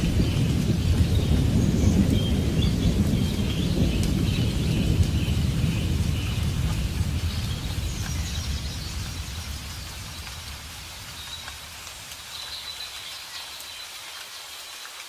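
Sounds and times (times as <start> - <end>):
rolling thunder: 0.0 - 12.9
steady rain: 0.0 - 15.0.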